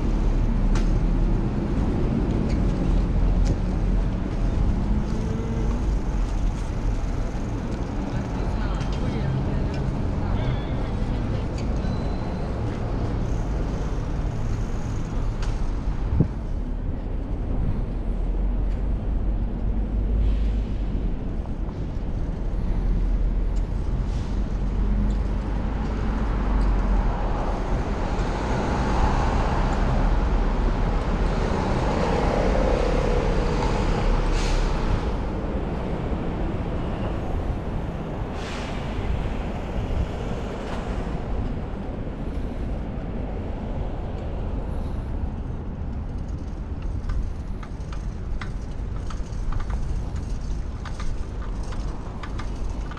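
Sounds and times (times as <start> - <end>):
street traffic noise: 0.0 - 52.9.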